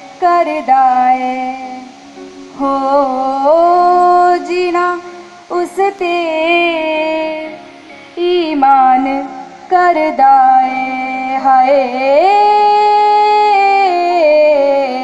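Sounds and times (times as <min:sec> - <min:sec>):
girl singing into a microphone: 0:00.0 - 0:15.0.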